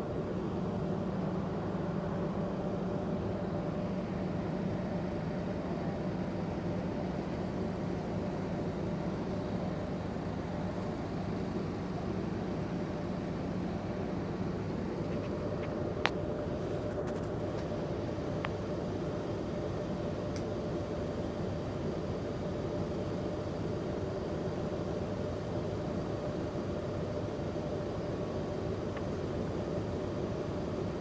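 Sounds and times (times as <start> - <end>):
ferry engines droning: 0.0 - 31.0.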